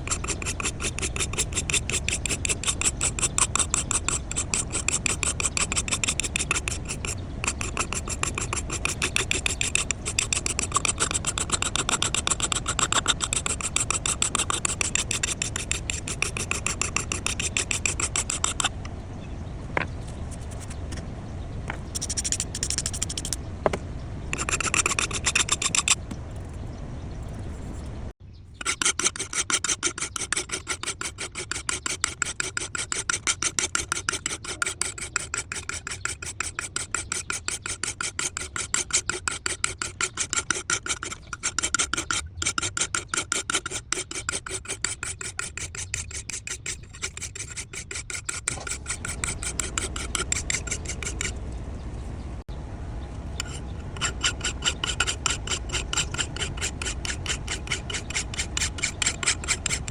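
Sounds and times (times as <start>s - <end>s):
hand file rasping on steel: 0.0s - 18.8s, 21.9s - 23.4s, 24.3s - 26.0s, 28.6s - 51.4s, 53.4s - 59.9s.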